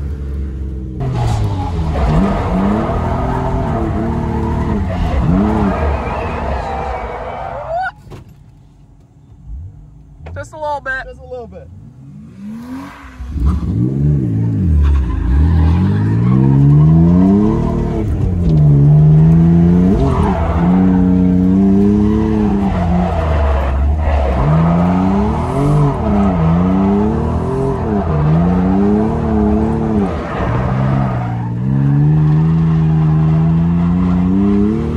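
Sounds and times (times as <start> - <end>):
car engine revving: 0.0 - 7.8, 11.7 - 34.9
tires squealing: 1.0 - 8.1, 12.3 - 34.9.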